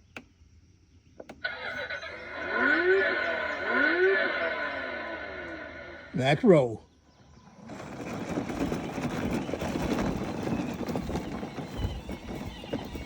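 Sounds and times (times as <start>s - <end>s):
vehicle driving over rough ground: 1.2s - 13.0s.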